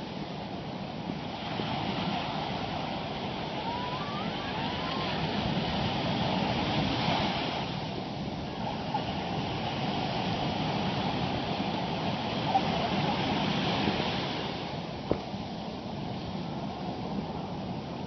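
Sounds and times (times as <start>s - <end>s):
ocean surf breaking on sand: 0.0s - 18.0s.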